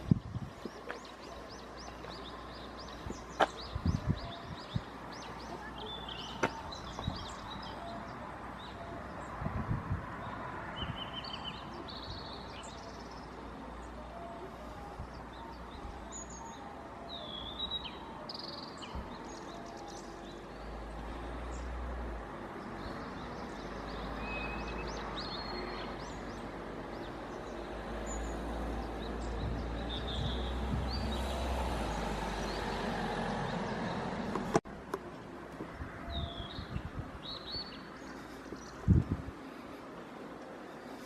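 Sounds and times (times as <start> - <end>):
small birds chirping: 0.0 - 34.6, 35.6 - 41.0.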